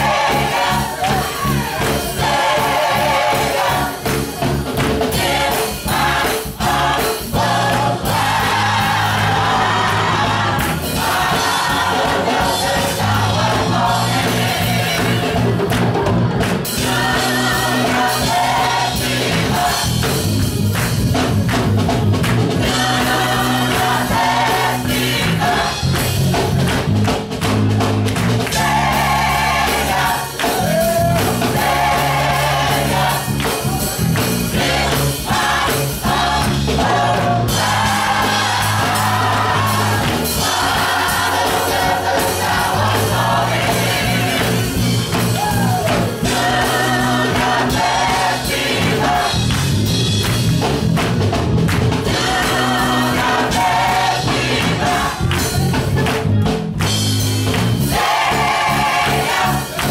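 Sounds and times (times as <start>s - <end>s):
gospel choir singing: 0.0s - 26.8s, 28.2s - 50.4s, 51.2s - 56.0s, 57.4s - 59.9s.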